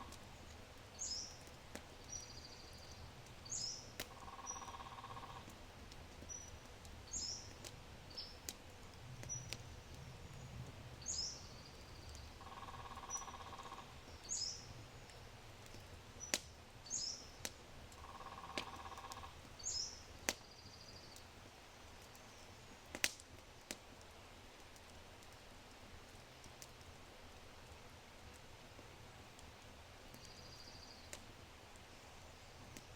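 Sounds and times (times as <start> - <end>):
fire popping: 0.0 - 32.0, 32.6 - 32.9
wood fire crackling: 0.0 - 32.9.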